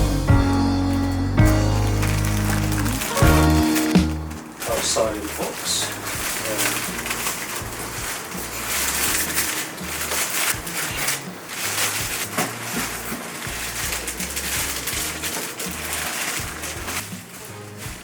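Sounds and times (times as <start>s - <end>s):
background music with bass line: 0.0s - 18.0s
cardboard and packing rustling: 0.0s - 18.0s.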